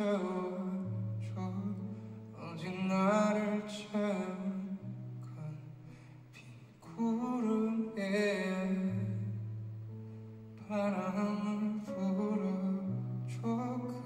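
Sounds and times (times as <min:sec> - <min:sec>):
man singing softly: 0:00.0 - 0:14.0.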